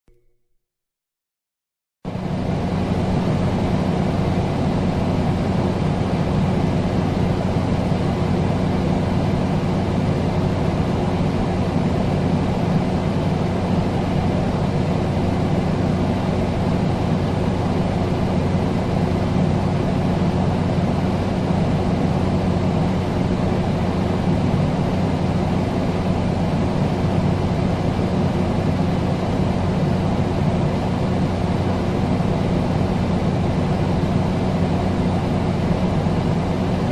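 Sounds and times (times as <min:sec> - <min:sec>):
air conditioner running: 0:02.1 - 0:36.9.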